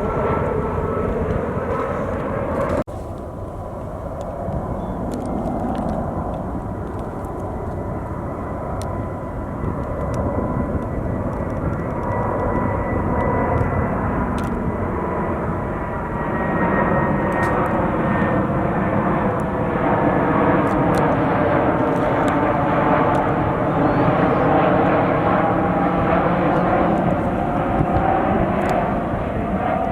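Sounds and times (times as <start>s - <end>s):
jet engines whining and rushing: 0.0s - 29.9s.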